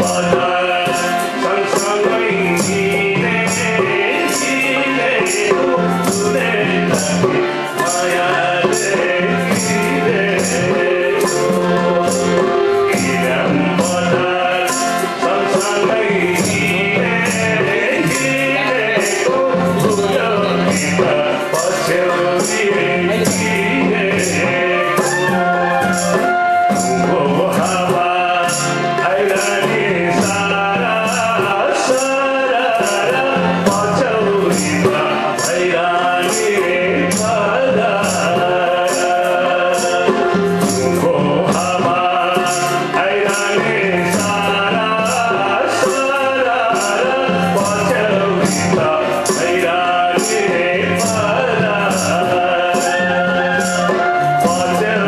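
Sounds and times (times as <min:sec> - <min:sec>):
harmonium chords: 0:00.0 - 0:55.0
jingling percussion beat: 0:00.0 - 0:55.0
man singing into a microphone: 0:00.0 - 0:55.0.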